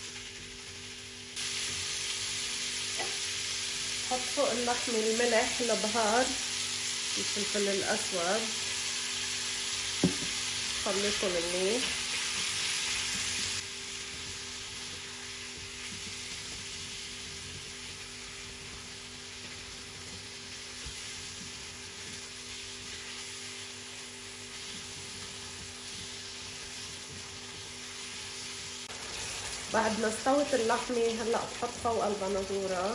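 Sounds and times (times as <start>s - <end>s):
meat sizzling in a frying pan: 0.0s - 32.9s.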